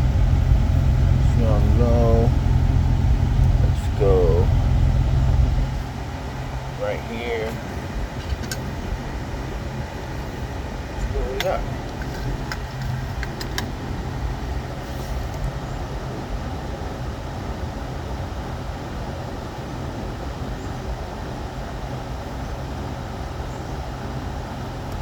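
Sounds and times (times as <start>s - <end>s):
air conditioning air rush: 0.0s - 25.0s
car engine idling hum: 0.0s - 25.0s.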